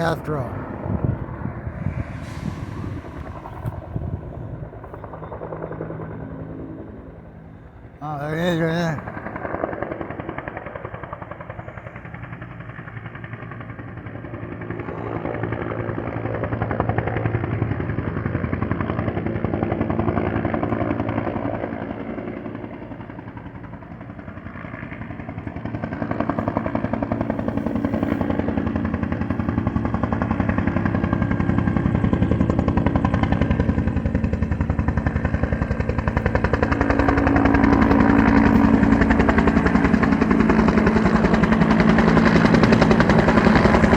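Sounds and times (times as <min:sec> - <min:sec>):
helicopter rotor chop and turbine: 0:00.0 - 0:43.9.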